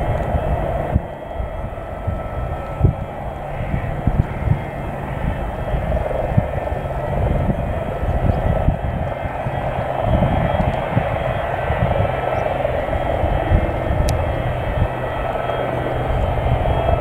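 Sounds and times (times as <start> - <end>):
jet engines roaring with whine: 0.0 - 17.0
wind buffeting microphone: 0.0 - 17.0.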